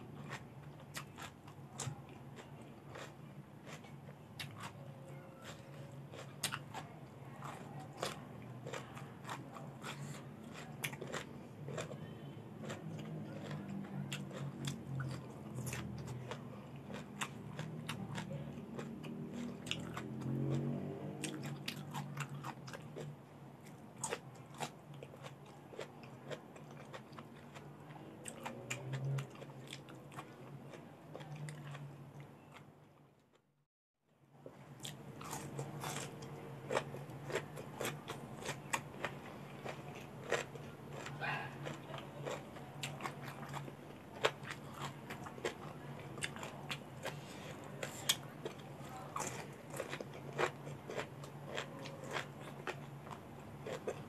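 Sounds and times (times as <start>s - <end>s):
chewing crunchy vegetables: 0.0s - 33.3s, 34.4s - 54.0s.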